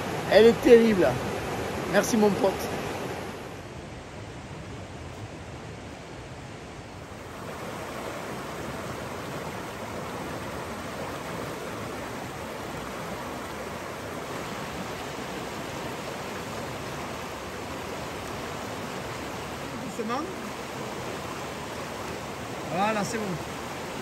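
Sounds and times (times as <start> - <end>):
river rushing over rocks: 0.0 - 24.0.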